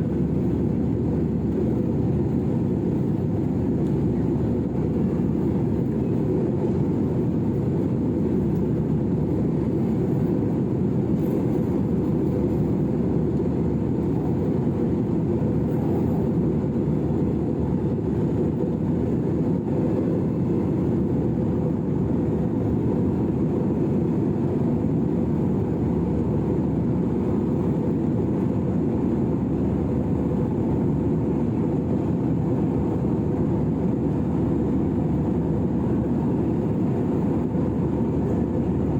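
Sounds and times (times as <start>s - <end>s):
jet engine cabin rumble: 0.0s - 38.9s.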